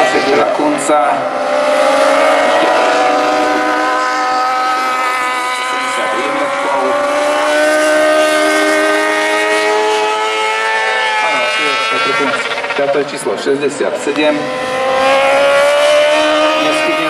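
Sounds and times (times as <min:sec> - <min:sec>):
motorcycle engine running hard: 0:00.0 - 0:17.0.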